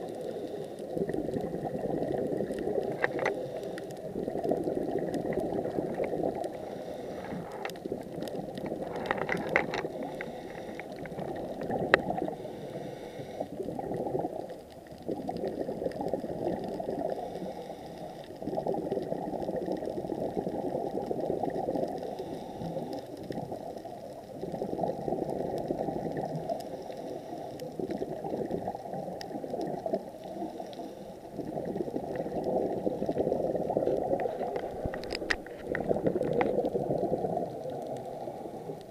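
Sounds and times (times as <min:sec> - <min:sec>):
faint clicks: 0:00.0 - 0:38.9
underwater bubbling and rushing water: 0:00.0 - 0:38.9.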